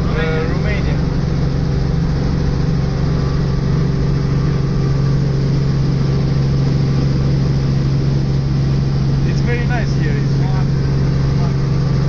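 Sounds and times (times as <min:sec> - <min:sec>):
helicopter drone: 0:00.0 - 0:12.0.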